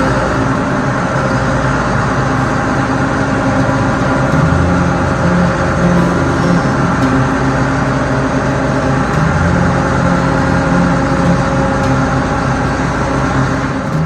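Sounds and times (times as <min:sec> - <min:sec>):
farm machine engine droning: 0:00.0 - 0:14.0.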